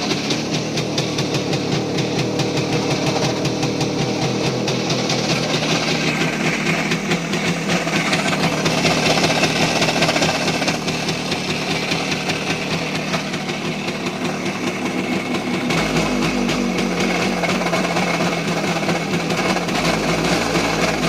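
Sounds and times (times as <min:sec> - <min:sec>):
two-stroke motorcycle engine knocking: 0:00.0 - 0:21.0.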